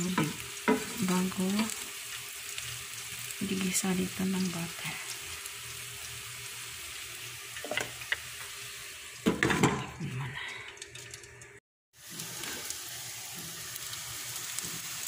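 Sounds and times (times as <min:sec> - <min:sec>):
rice sizzling in butter: 0:00.0 - 0:09.5, 0:12.0 - 0:15.0.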